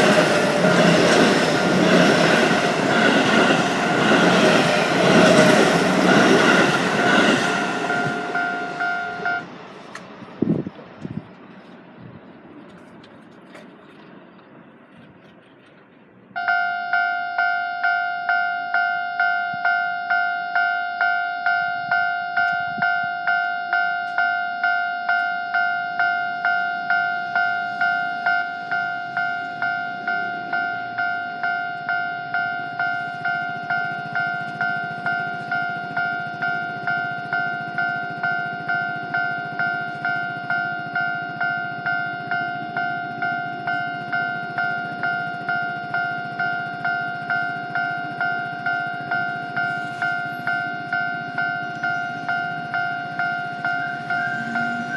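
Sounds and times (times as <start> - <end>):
level-crossing warning bell: 0.0 - 9.6, 16.4 - 54.9.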